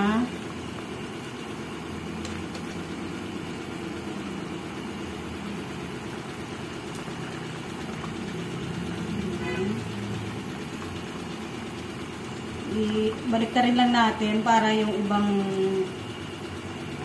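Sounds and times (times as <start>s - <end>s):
broth simmering: 0.0s - 17.0s
gas burner rumble: 0.0s - 17.0s.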